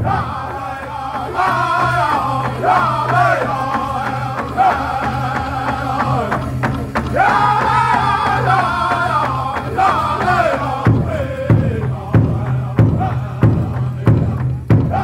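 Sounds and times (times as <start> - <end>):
high-pitched group singing: 0.0 - 15.0
large drum beating: 0.0 - 15.0.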